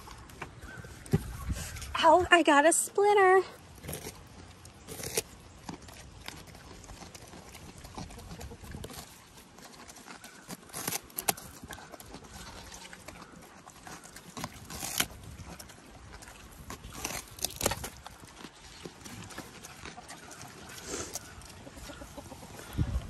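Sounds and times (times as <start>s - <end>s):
animals crunching pumpkin: 0.0s - 23.0s.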